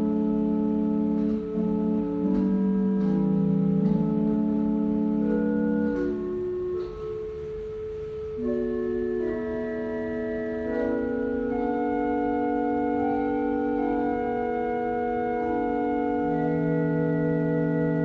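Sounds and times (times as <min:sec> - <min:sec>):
church organ chords: 0:00.0 - 0:18.0.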